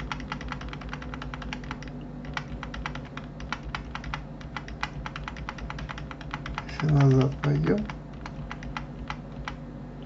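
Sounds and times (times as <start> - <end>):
computer keyboard keys clicking: 0.0 - 9.6.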